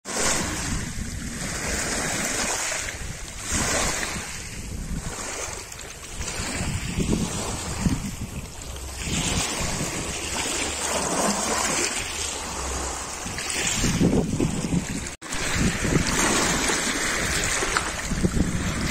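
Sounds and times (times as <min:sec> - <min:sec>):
waves washing over pebbles: 0:00.0 - 0:18.9.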